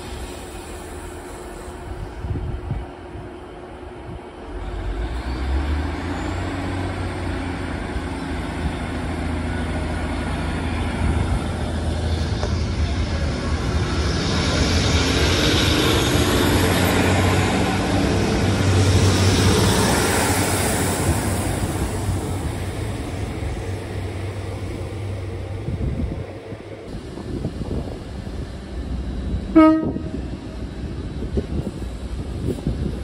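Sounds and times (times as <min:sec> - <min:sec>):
train diesel engine humming: 0:00.0 - 0:33.0.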